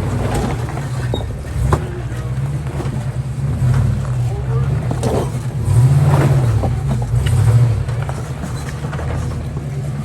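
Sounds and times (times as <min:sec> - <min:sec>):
engine running low drone: 0:00.0 - 0:10.0.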